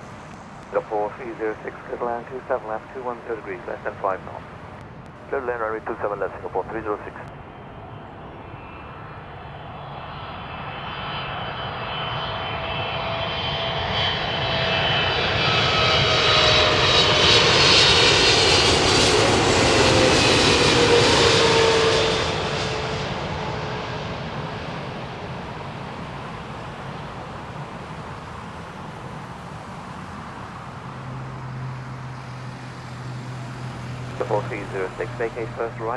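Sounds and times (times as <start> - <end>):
jet airliner passing close by: 0.0 - 35.9.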